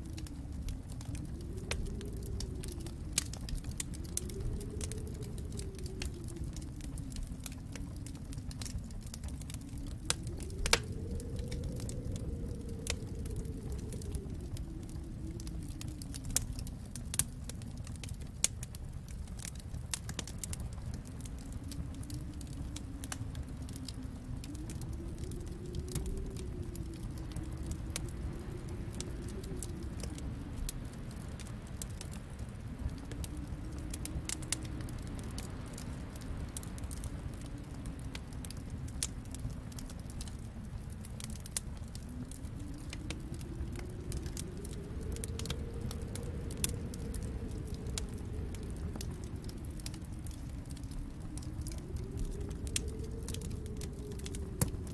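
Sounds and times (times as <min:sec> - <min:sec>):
low fire rumble: 0:00.0 - 0:54.9
wood fire crackling and popping: 0:00.0 - 0:54.9.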